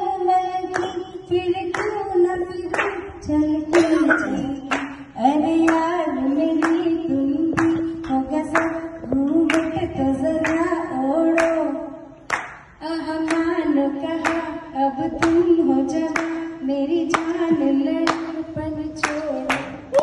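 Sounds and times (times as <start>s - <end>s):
woman singing into microphone: 0.0s - 20.0s
hands clapping a beat: 0.7s - 3.1s, 3.7s - 13.5s, 14.2s - 14.6s, 15.2s - 16.4s, 17.1s - 18.4s, 19.0s - 20.0s.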